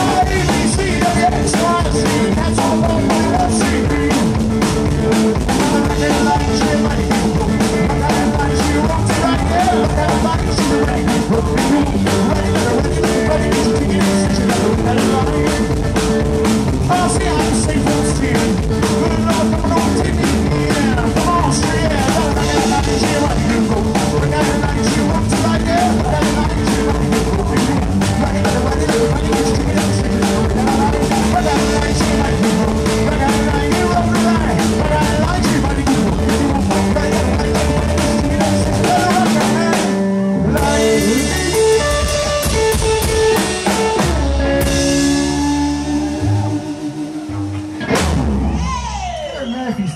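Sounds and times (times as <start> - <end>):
drum kit beat: 0.0 - 49.1
electric guitar lead: 0.0 - 49.6
upright bass: 0.0 - 49.9.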